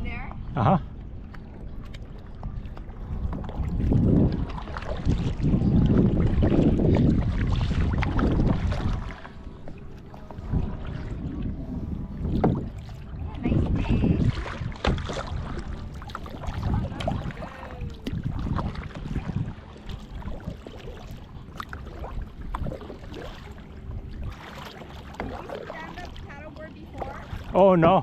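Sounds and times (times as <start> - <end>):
water sloshing against hull: 0.0 - 28.0
wind rumbling on microphone: 0.0 - 28.0
paddle strokes: 1.0 - 28.0.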